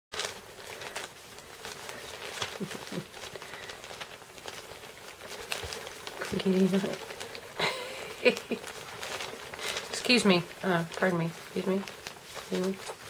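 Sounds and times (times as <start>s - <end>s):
paper rustling: 0.1s - 13.0s.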